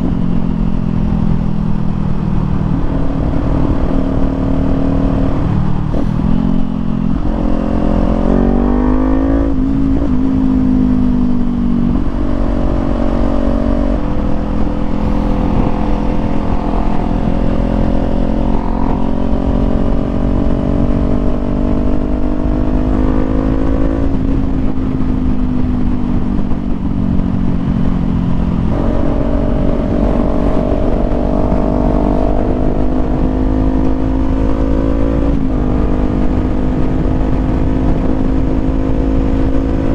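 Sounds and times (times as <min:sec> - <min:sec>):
motorcycle engine revving: 0:00.0 - 0:39.9
wind rumble on microphone: 0:00.0 - 0:39.9.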